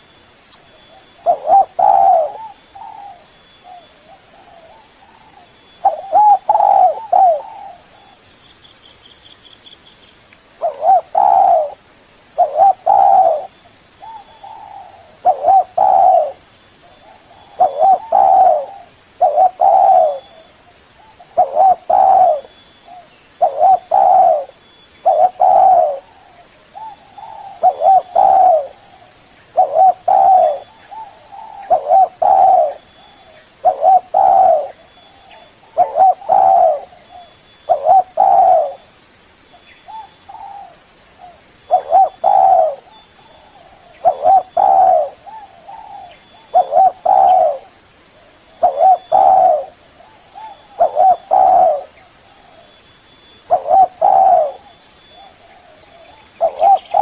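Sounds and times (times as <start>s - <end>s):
high bird trill: 0.0s - 11.8s, 12.4s - 47.7s, 48.5s - 57.0s
dove cooing: 0.6s - 8.2s, 10.6s - 38.9s, 39.8s - 57.0s.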